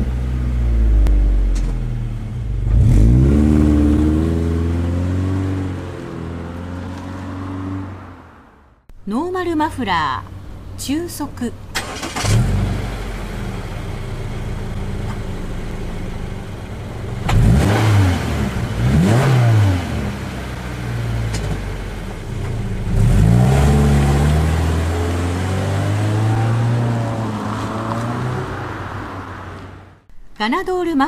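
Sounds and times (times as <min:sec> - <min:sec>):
car engine revving: 0:00.0 - 0:08.8, 0:11.8 - 0:30.1.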